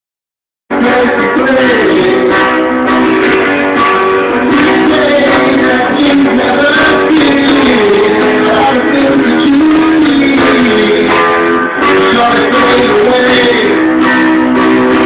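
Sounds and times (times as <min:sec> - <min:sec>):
guitar playing: 0:00.7 - 0:15.0
keyboard playing: 0:00.7 - 0:15.0.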